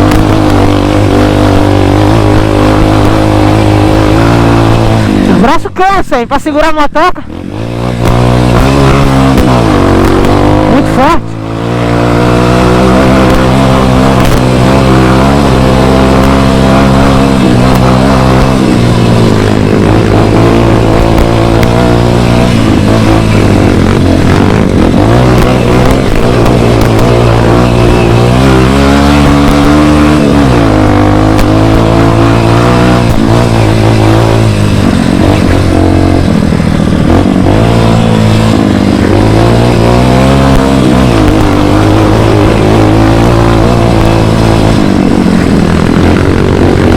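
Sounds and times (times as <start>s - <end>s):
dirt bike engine revving: 0.0s - 6.3s, 7.1s - 46.9s.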